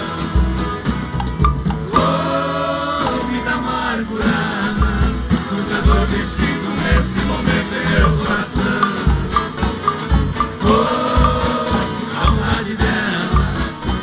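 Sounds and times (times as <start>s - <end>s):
country band playing: 0.0s - 14.0s.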